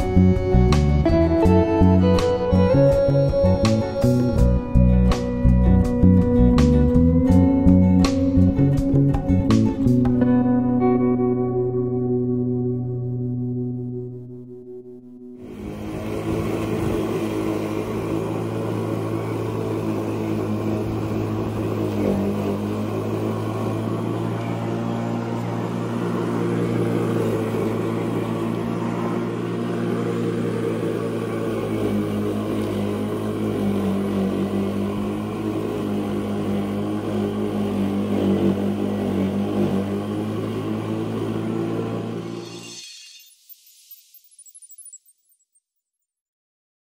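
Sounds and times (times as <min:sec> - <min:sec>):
lawn mower humming: 0:00.0 - 0:42.7.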